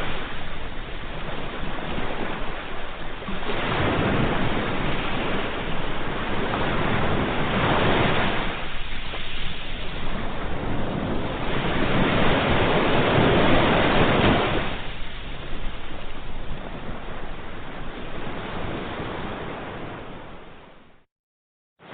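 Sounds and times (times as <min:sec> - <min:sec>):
ocean waves breaking on shore: 0:00.0 - 0:21.1.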